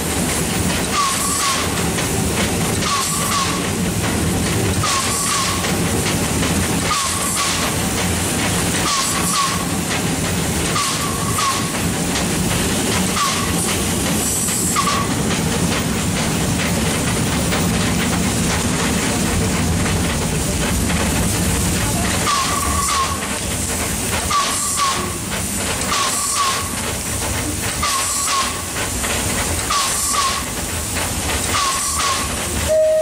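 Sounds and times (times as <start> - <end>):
hissing steam puffs: 0.0 - 32.9
steam locomotive rumbling: 0.0 - 33.0.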